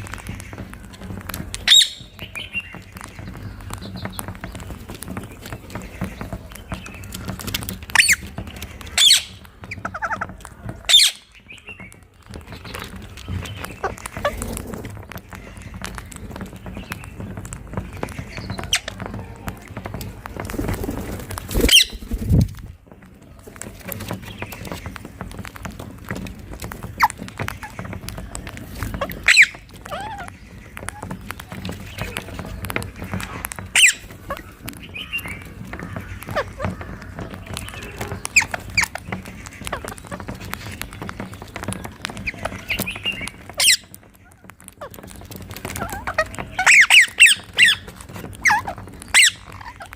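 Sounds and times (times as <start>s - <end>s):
low thumps: 0.0s - 49.6s
clicks and rustles: 0.0s - 49.9s
parakeets calling: 0.0s - 49.9s.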